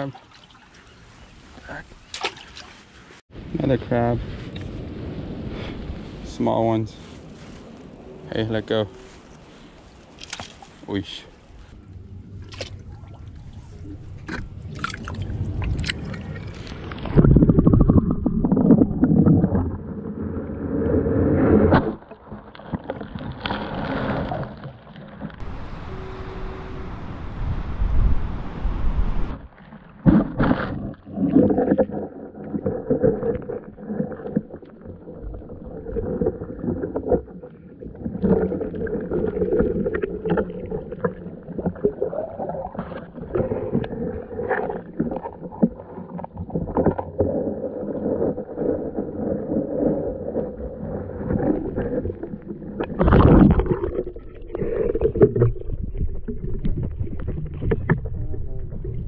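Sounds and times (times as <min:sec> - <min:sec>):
muffled water sloshing and gurgling: 0:00.0 - 0:59.0.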